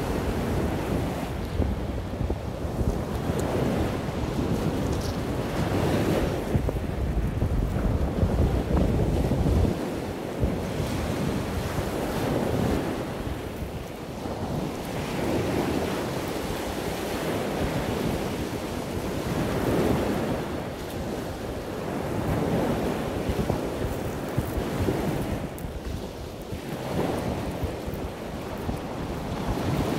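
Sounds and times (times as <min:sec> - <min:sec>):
ocean surf washing on beach: 0:00.0 - 0:29.9
wind buffeting microphone: 0:00.0 - 0:29.9.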